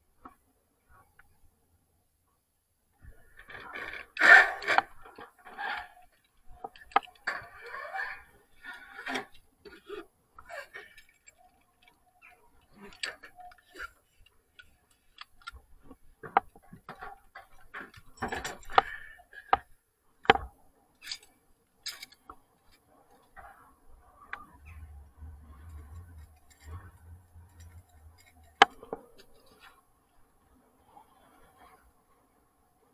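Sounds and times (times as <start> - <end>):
rustling: 3.0 - 32.4.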